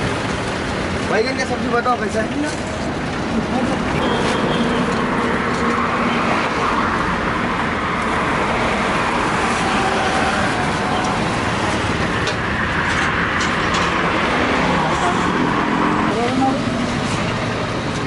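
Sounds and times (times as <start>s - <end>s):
passing vehicles rushing: 0.0s - 18.0s.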